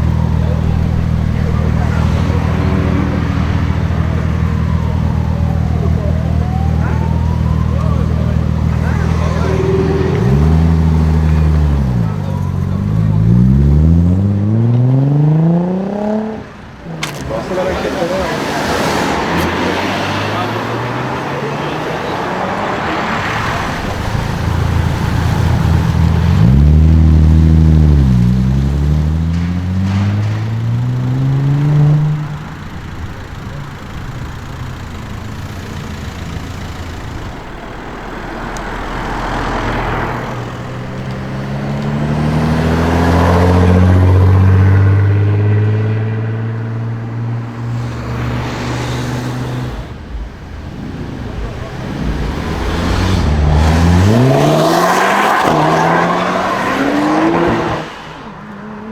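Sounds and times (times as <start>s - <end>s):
car engine accelerating hard: 0.0s - 58.9s.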